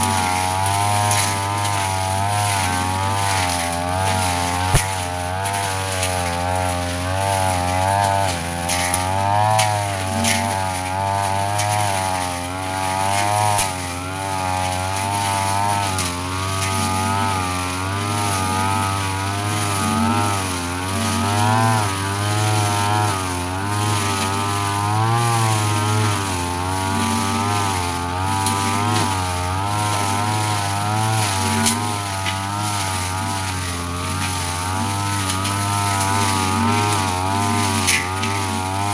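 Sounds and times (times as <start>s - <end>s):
brush cutter cutting grass: 0.0s - 38.9s.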